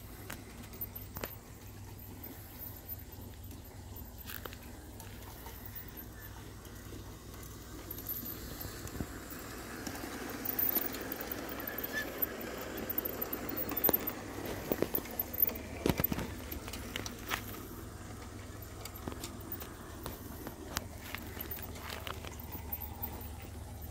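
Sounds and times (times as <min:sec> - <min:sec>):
model train wheels clicking over rail joints: 0:00.0 - 0:23.9.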